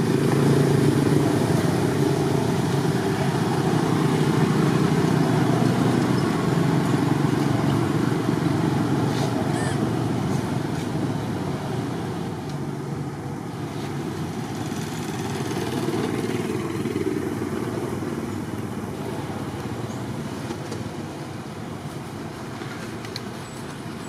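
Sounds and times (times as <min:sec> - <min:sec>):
vehicle engines rumbling: 0:00.0 - 0:24.0.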